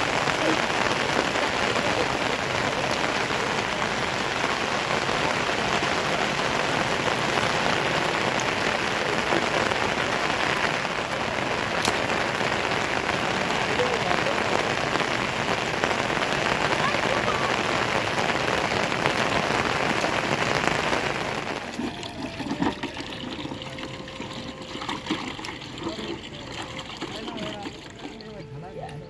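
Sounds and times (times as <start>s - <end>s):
steady rain falling: 0.0s - 24.6s.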